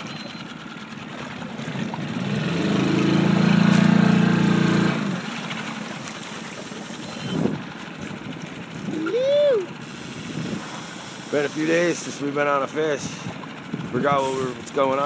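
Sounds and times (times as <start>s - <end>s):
motorboat engine running: 0.0s - 15.0s
water noise: 0.0s - 15.0s.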